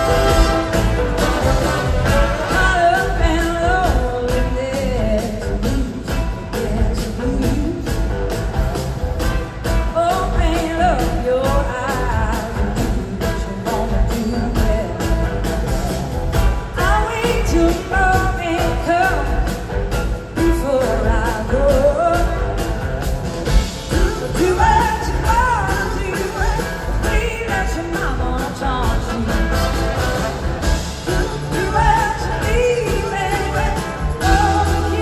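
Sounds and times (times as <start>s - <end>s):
blues-rock band playing live: 0.0s - 35.0s
sliding lead guitar line: 0.0s - 35.0s.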